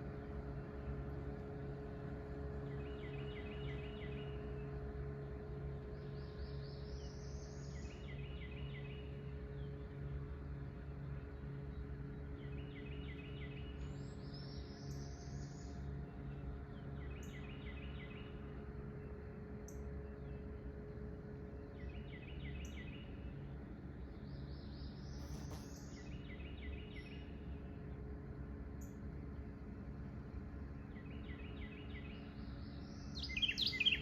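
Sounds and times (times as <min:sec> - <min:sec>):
songbirds singing: 0:02.3 - 0:34.0.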